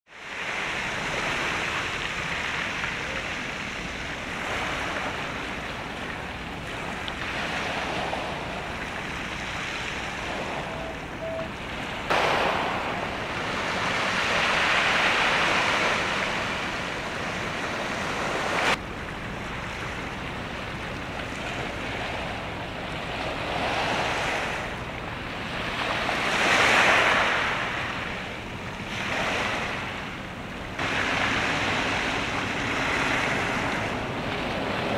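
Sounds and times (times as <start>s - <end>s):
waves washing on shore: 0.1s - 34.9s.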